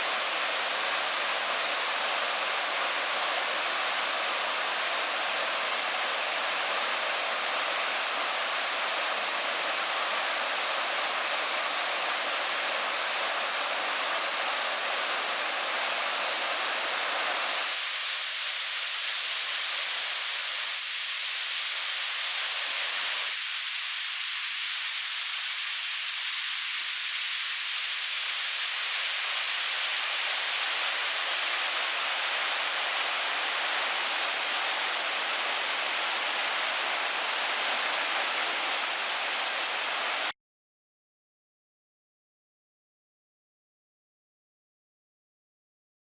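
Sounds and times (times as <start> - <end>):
rushing water: 0.0 - 40.3.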